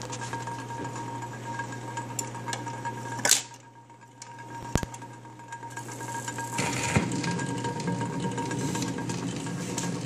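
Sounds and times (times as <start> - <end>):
record changer motor hum: 0.0 - 10.0.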